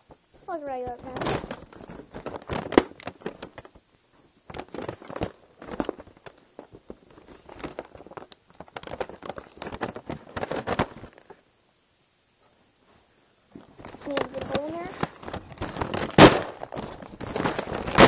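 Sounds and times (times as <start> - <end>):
plastic bag crinkling: 0.5 - 3.8, 4.4 - 11.4, 13.5 - 18.0.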